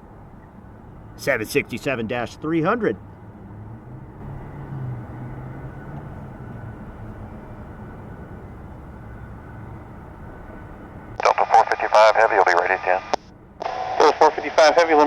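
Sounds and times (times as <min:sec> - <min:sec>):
distant jet engine hum: 0:00.0 - 0:15.0.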